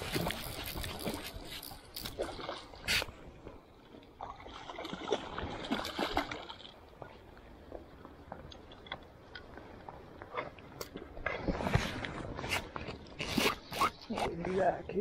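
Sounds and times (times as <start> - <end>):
stream water sloshing and splashing: 0.0 - 15.0.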